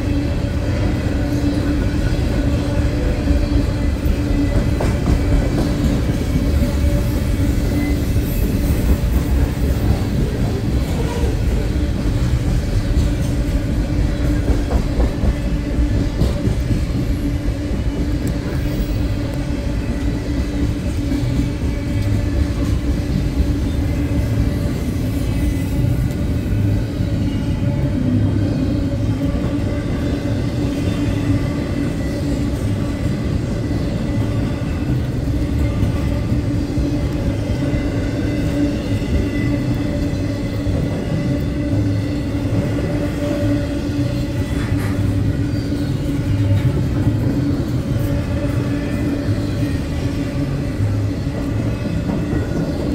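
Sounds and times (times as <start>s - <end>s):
train wheels rumbling and clacking: 0.0s - 52.9s.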